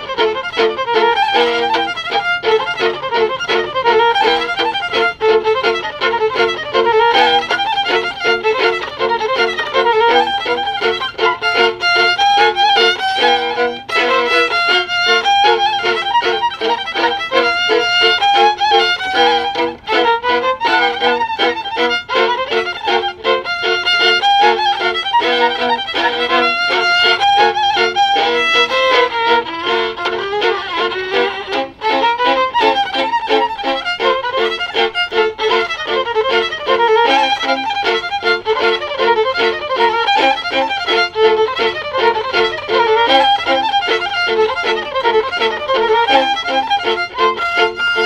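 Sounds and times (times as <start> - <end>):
violin duet: 0.0 - 48.0.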